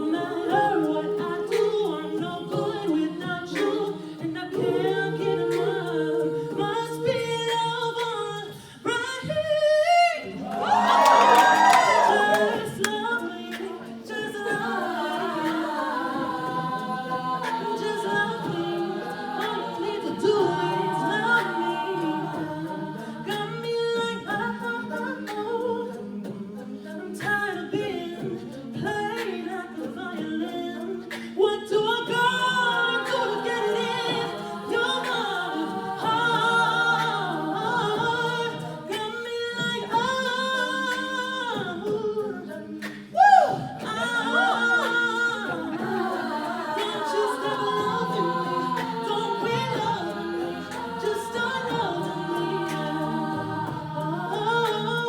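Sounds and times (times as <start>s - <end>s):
a cappella group singing: 0.0s - 55.0s.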